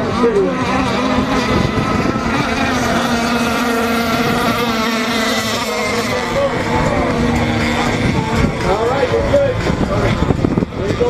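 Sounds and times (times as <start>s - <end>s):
model boat motor whine: 0.0s - 11.0s.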